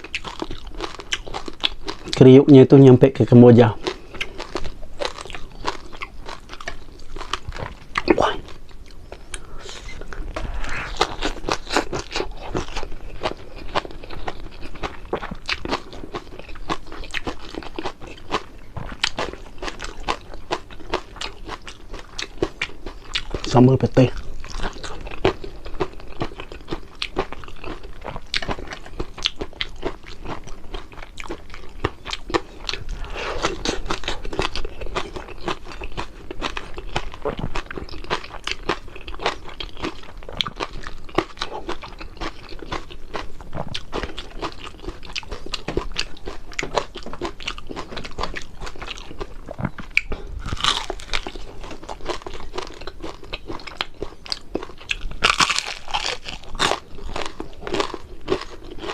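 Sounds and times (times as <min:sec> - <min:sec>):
crunching and chewing fried fish: 0:00.0 - 0:58.9.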